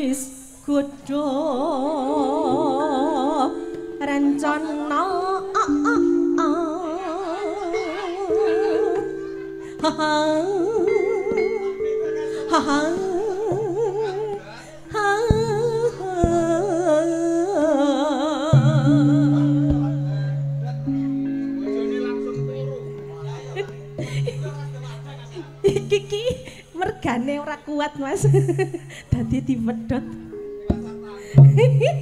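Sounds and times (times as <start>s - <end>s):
person singing with vibrato: 0.0s - 26.9s
held instrumental notes: 1.4s - 32.0s.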